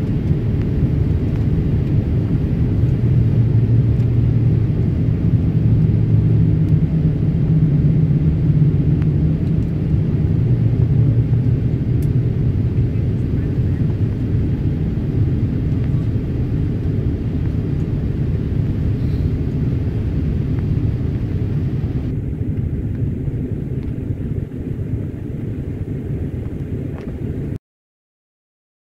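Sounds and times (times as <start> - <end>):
airplane cabin engine rumble: 0.0 - 27.6.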